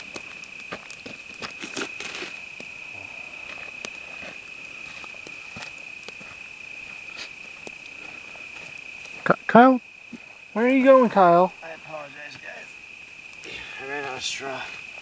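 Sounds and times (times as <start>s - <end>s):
campfire crackling: 0.0s - 15.0s
crickets chirping: 0.0s - 15.0s.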